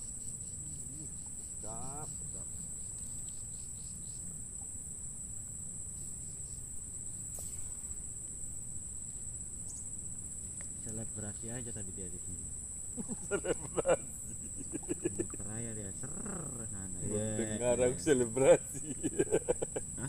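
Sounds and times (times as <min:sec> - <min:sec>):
fast pulsing insect chirp: 0:00.0 - 0:20.0
insects droning: 0:00.0 - 0:20.0.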